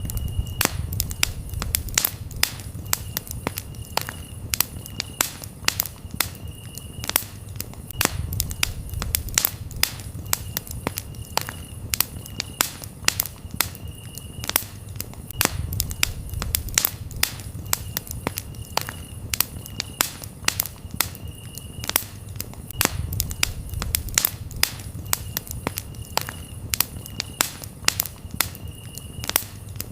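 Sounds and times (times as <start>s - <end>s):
campfire crackling and popping: 0.0s - 29.9s
crickets chirping: 0.0s - 29.9s.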